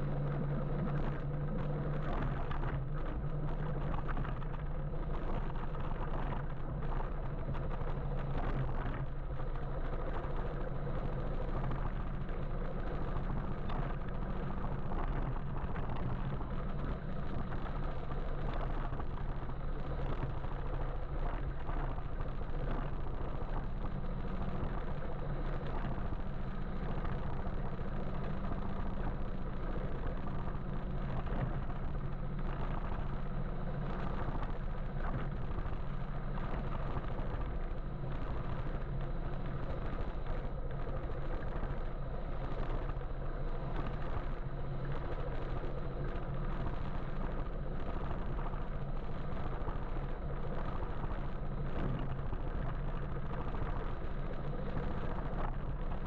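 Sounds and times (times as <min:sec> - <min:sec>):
electric motorbike low hum: 0:00.0 - 0:56.0.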